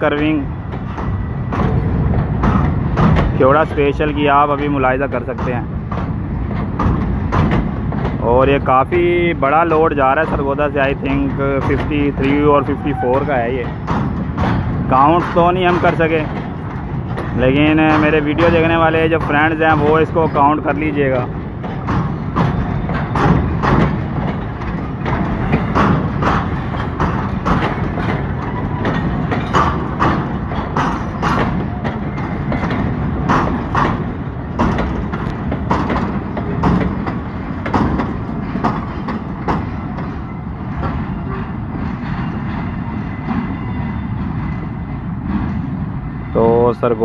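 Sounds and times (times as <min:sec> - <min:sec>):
freight train rumbling: 0:00.0 - 0:47.0
wheels clacking over rail joints: 0:00.0 - 0:47.0.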